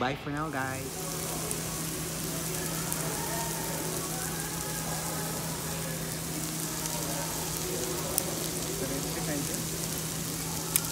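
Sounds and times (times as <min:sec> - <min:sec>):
steady low hum: 0:00.0 - 0:10.9
steak sizzling on grill plate: 0:00.3 - 0:10.9
fine crackles: 0:00.4 - 0:10.9.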